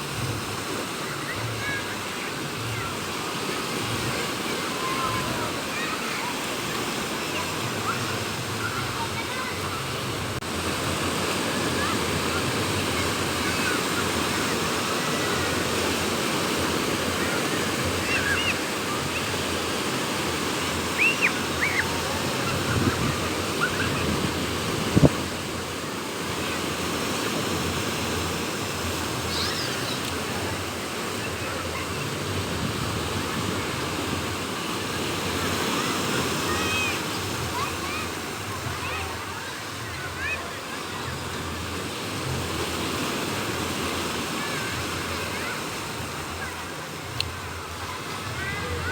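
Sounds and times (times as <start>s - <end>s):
sea waves washing ashore: 0.0s - 48.9s
wind: 0.0s - 48.9s.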